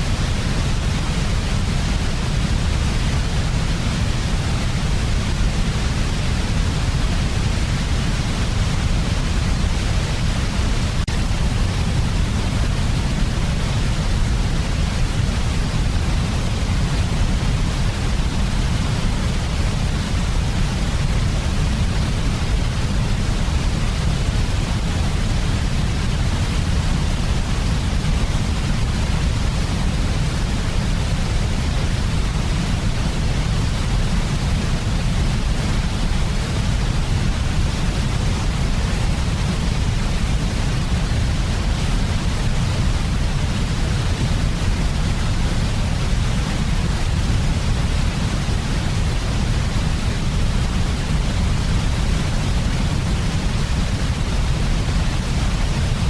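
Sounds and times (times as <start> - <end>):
synthetic white noise: 0.0 - 56.0.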